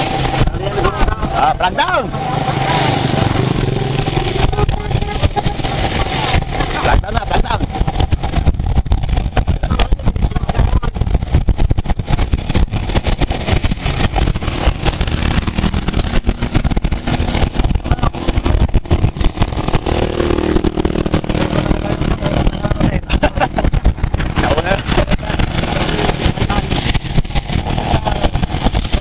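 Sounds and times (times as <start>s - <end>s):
road noise: 0.0s - 29.0s
vehicle engine tone: 0.0s - 29.0s
wind buffeting microphone: 0.0s - 29.0s.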